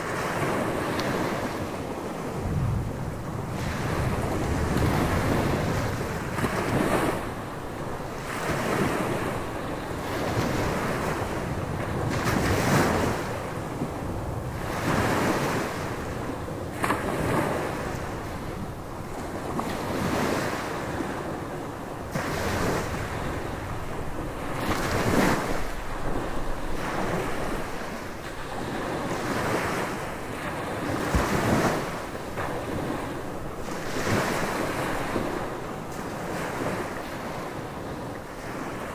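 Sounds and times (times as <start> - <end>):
surf waves crashing on beach: 0.0 - 38.9
wind buffeting microphone: 0.0 - 38.9.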